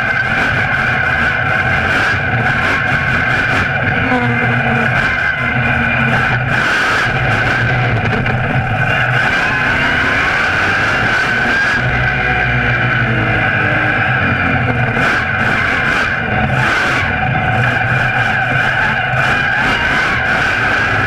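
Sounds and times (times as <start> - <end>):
steady high whine: 0.0 - 21.0
truck engine revving: 0.0 - 21.0.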